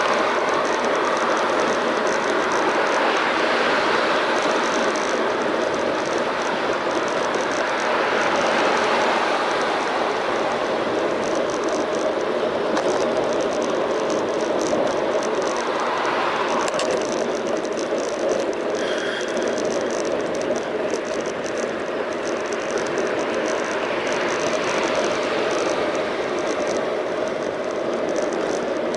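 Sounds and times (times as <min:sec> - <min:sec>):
bicycle tyre and wind noise: 0:00.0 - 0:28.9
light rattling ticks: 0:00.0 - 0:28.9.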